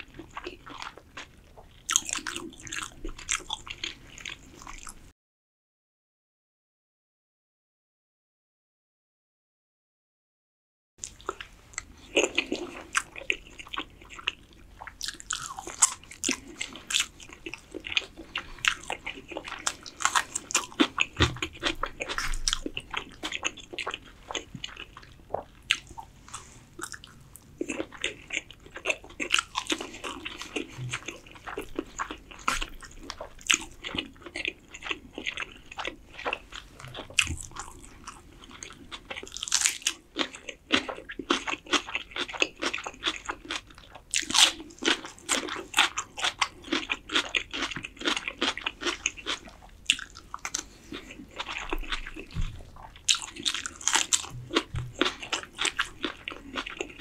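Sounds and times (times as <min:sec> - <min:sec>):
person chewing with wet smacks: 0:00.0 - 0:05.0, 0:11.0 - 0:57.0
crisp cucumber crunch: 0:11.0 - 0:57.0.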